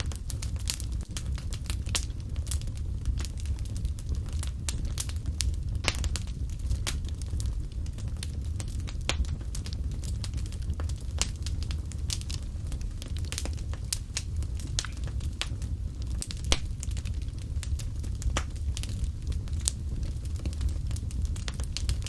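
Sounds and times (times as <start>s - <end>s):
low rumble: 0.0s - 22.0s
wood fire crackling: 0.0s - 22.0s.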